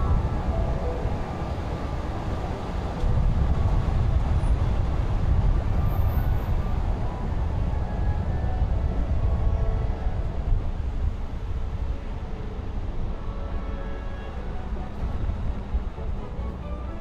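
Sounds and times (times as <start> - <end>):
car tyre and wind rumble: 0.0 - 16.3.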